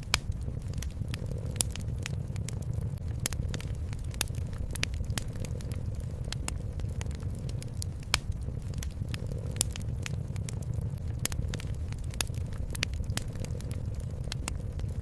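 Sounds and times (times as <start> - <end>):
cat purring: 0.0 - 15.0
wood fire crackling and popping: 0.0 - 15.0.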